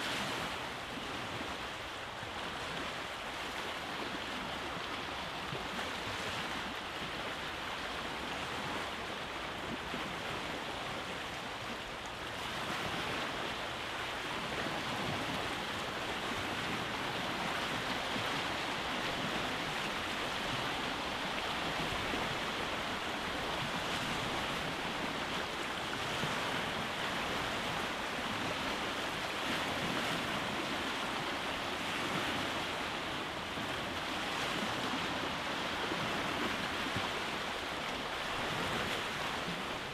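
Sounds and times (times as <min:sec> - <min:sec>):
waves washing onto rocky beach: 0:00.0 - 0:39.9.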